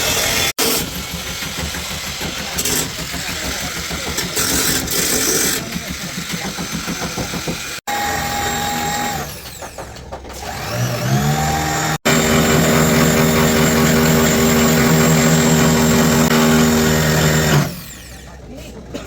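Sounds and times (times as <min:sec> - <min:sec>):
power tool motor whining: 0:00.0 - 0:18.4.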